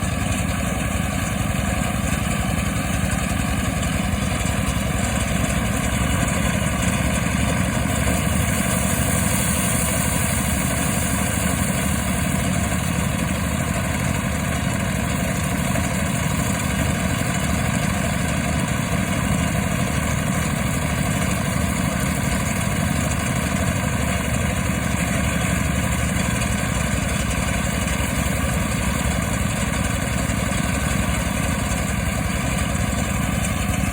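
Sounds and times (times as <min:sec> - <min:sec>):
rice thresher engine running: 0:00.0 - 0:33.9.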